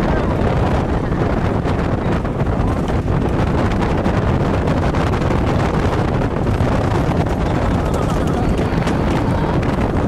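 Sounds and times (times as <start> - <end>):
boat engine running: 0.0 - 10.0
water: 0.0 - 10.0
wind buffeting microphone: 0.0 - 10.0.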